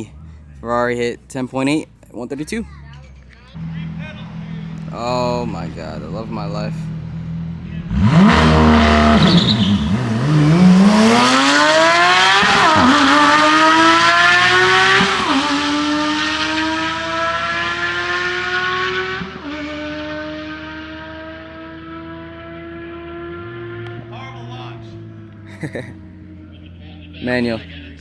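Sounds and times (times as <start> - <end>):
car engine revving through gears: 3.6 - 28.0.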